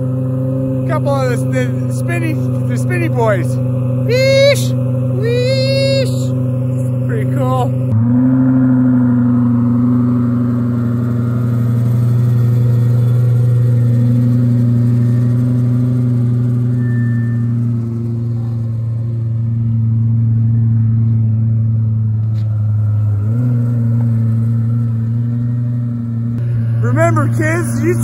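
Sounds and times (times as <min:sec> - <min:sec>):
sports car engine idling: 0:00.0 - 0:28.0.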